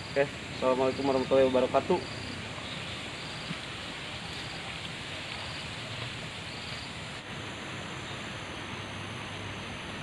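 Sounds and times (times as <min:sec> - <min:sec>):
insect chorus buzzing: 0:00.0 - 0:10.0
low hiss: 0:00.0 - 0:10.0.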